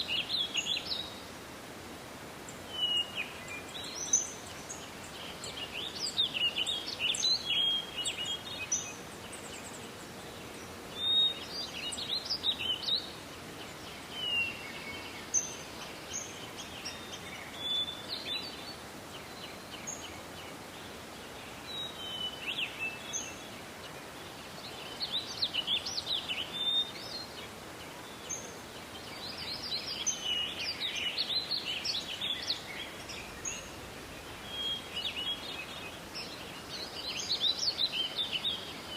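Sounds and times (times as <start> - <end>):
forest ambience hiss: 0.0 - 38.9
songbirds chirping: 0.0 - 38.9.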